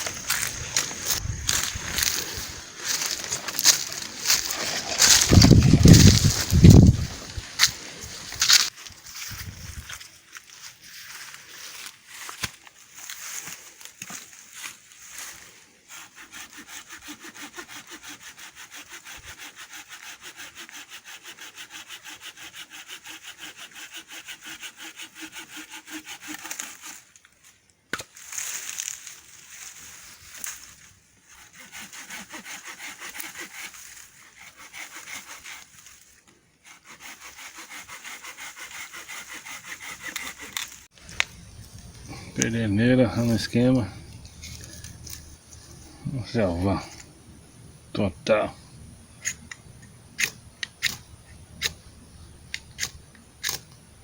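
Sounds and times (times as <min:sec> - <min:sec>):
hand saw cutting wood: 0:00.0 - 0:08.8, 0:15.2 - 0:27.1, 0:31.3 - 0:54.0.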